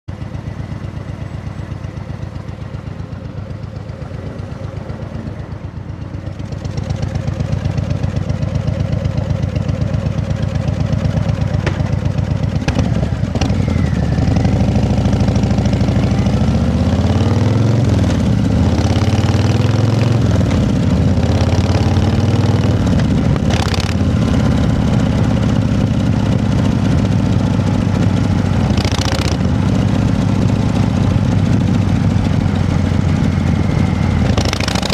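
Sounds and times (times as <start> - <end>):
engine running and revving: 6.4 - 34.9.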